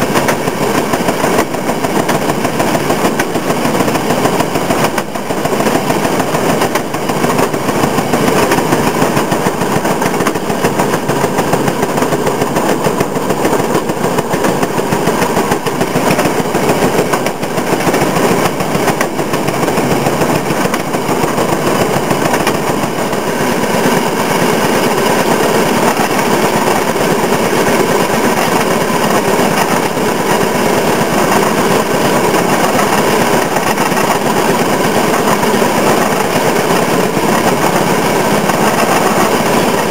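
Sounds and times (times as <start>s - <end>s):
car rattling on rails: 0.0s - 39.9s.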